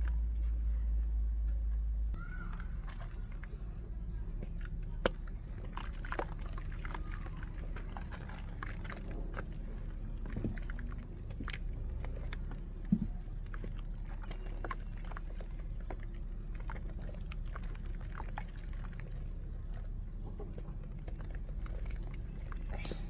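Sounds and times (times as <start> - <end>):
dry clay crunching and crumbling: 0.0 - 23.0
low hum: 0.0 - 23.0.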